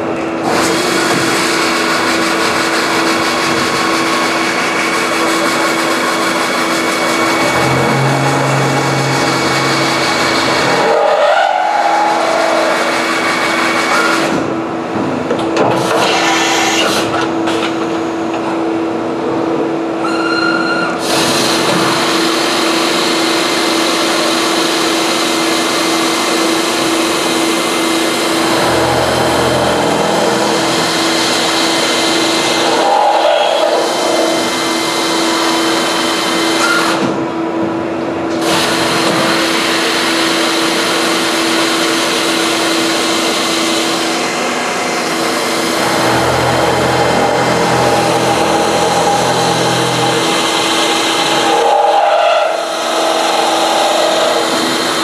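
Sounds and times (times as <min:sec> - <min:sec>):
drilling machine cutting steel: 0:00.5 - 0:14.4, 0:21.0 - 0:37.0, 0:38.4 - 0:55.0.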